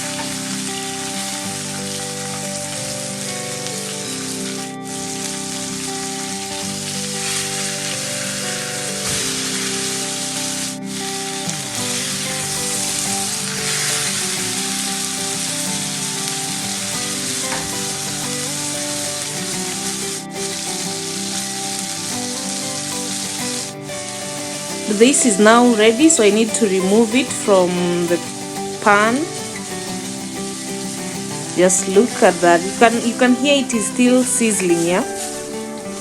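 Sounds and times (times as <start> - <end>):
steak sizzling in a pan: 0.0 - 36.0.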